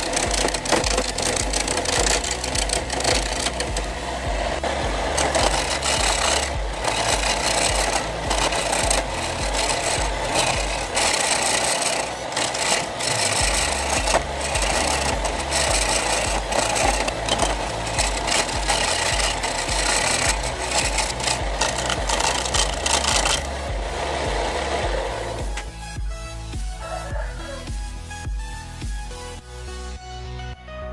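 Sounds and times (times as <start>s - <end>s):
chisel scraping spinning wood: 0.0s - 25.7s
lathe low hum: 0.0s - 29.8s.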